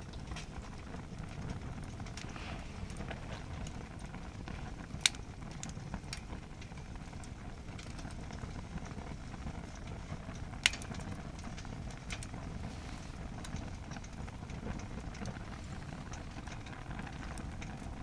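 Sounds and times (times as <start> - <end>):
fire crackling: 0.0 - 18.0
low rush of flames: 0.0 - 18.0.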